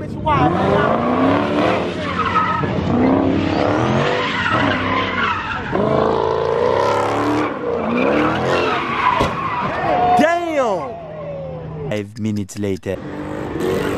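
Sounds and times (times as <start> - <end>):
tires squealing: 0.0 - 11.9, 12.9 - 13.9
car engines revving: 0.0 - 13.9.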